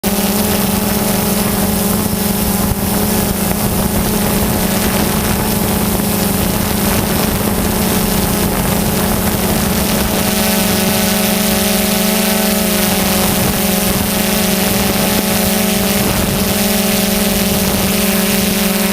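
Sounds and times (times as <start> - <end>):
quadcopter motors buzzing: 0.0 - 18.9.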